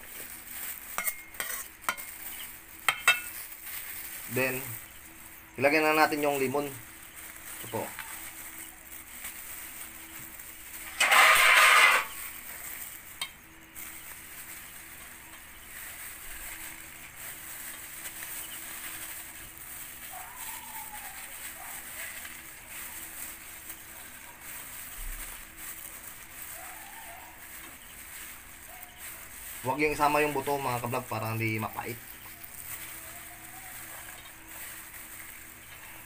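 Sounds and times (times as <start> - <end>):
squeezing lemons by hand: 0.0 - 36.0.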